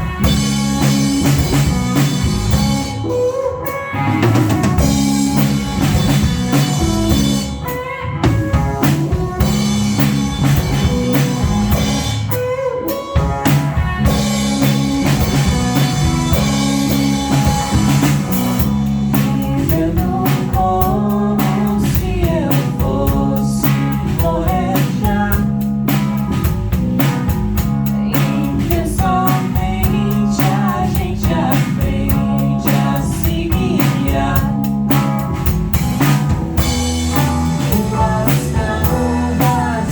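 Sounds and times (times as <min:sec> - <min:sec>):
drum kit: 0:00.0 - 0:39.9
guitar: 0:00.0 - 0:39.9.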